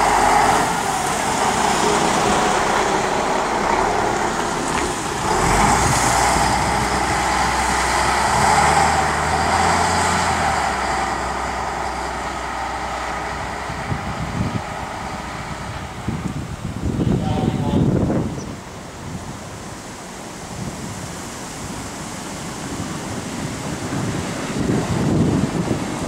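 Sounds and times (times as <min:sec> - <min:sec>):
diesel bus pulling away: 0:00.0 - 0:17.4, 0:18.3 - 0:26.0.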